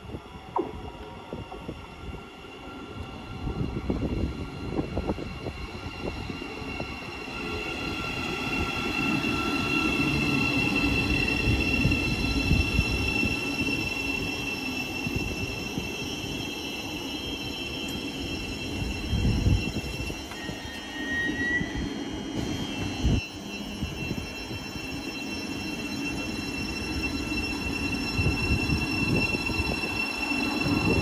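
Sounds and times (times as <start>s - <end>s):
train rumbling and braking: 0.0s - 31.0s
high steady brake squeal: 2.0s - 31.0s.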